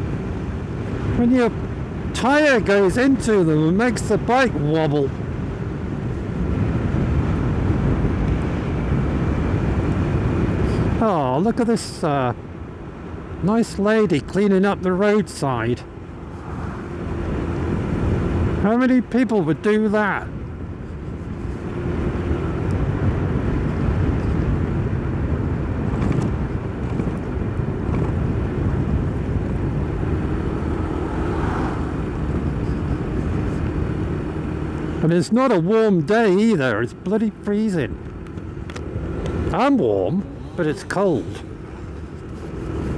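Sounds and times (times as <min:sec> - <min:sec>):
motorcycle engine rumble: 0:00.0 - 0:42.9
wind and road rush: 0:00.0 - 0:42.9.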